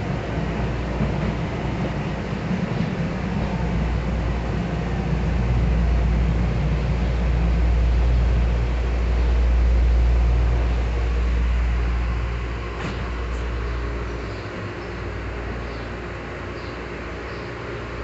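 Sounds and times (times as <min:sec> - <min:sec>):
train rumbling from inside car: 0:00.0 - 0:18.0.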